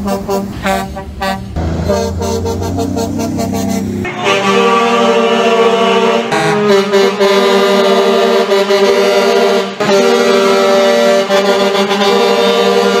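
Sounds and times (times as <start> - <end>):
truck air horns chord: 0.0 - 13.0.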